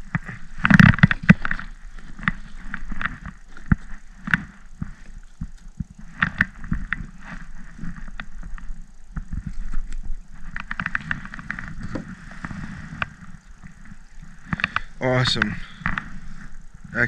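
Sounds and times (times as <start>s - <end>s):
fishing gear rustling and knocking: 0.0s - 17.0s.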